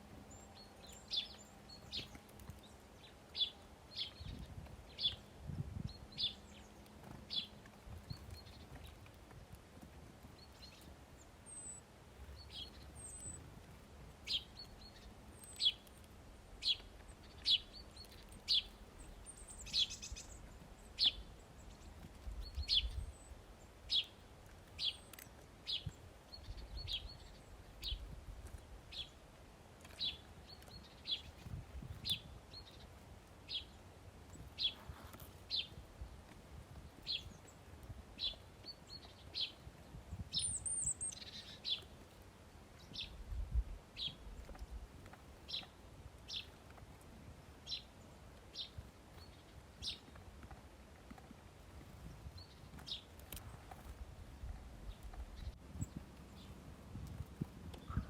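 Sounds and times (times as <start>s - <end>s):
faint low outdoor rumble: 0.0s - 58.0s
songbird chirping: 0.0s - 58.0s.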